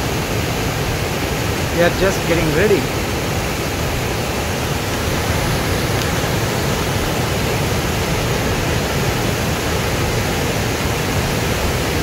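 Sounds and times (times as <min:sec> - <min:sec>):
whitewater roaring: 0:00.0 - 0:12.0.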